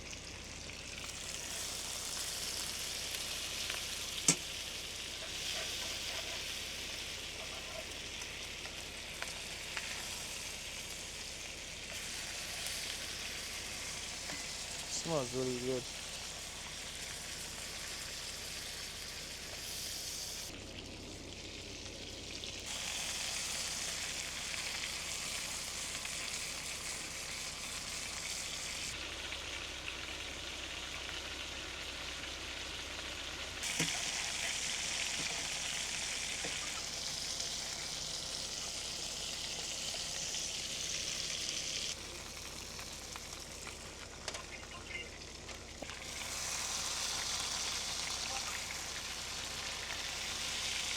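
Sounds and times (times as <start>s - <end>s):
meat sizzling in a pot: 0.0s - 50.9s.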